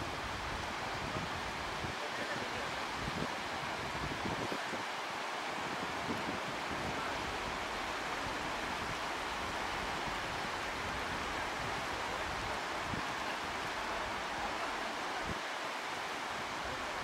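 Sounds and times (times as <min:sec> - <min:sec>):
wind gusts buffeting microphone: 0:00.0 - 0:14.4
surf on a beach: 0:00.0 - 0:17.0
wind: 0:00.0 - 0:17.0.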